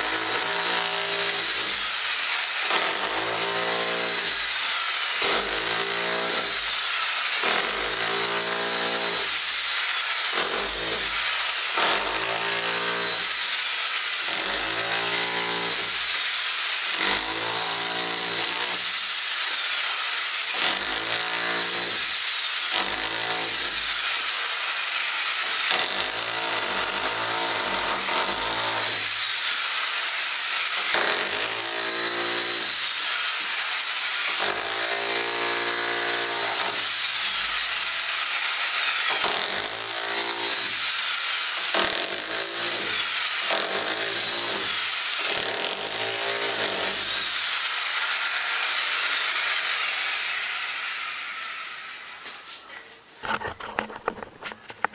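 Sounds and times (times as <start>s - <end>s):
rotary hammer chipping concrete: 0.0s - 51.6s.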